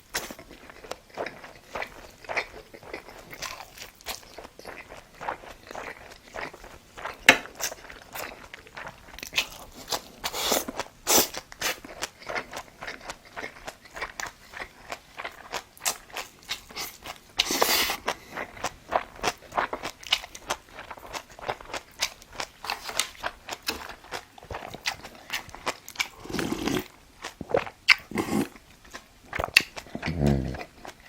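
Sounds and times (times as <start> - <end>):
person chewing food: 0.0 - 31.0.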